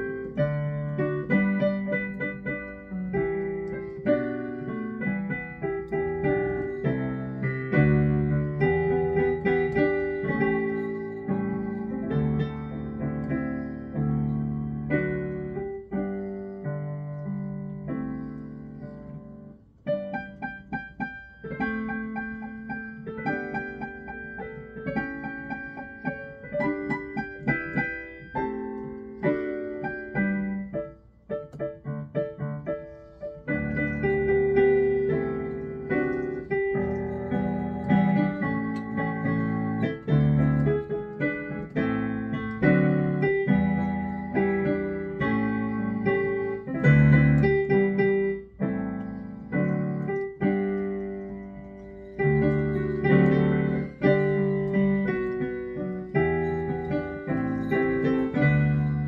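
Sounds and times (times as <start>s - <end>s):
digital piano playing chords: 0.0s - 59.0s.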